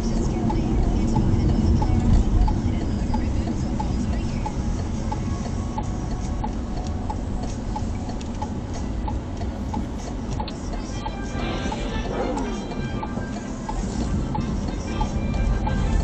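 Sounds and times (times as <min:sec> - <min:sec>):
car turn indicator ticking: 0:00.0 - 0:15.8
engine and road rumble: 0:00.0 - 0:16.0.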